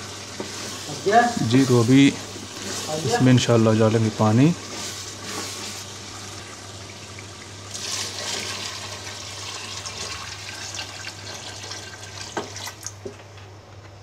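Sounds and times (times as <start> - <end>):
water pouring into a pot: 0.0 - 13.0.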